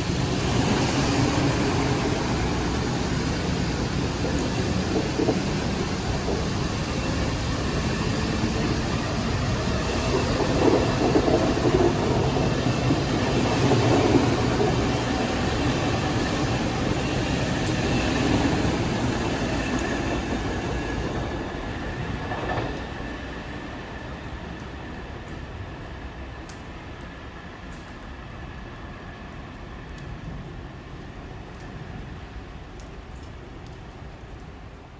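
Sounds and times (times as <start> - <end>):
train rumbling past: 0.0 - 29.8.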